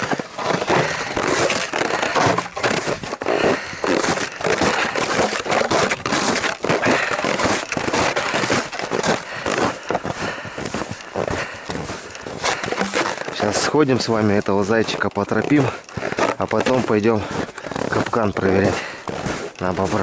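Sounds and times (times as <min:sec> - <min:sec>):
footsteps crunching through snow: 0:00.0 - 0:20.0.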